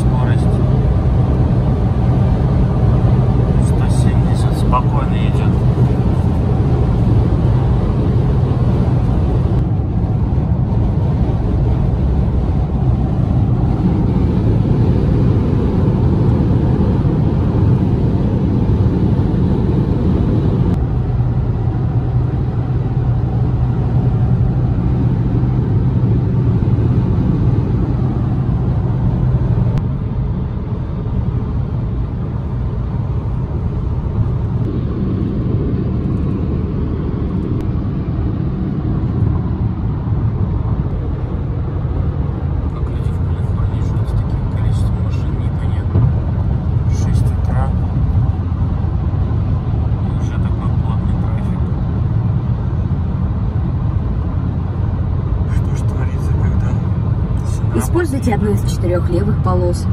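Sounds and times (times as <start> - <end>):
car engine drone in cabin: 0.0 - 59.9.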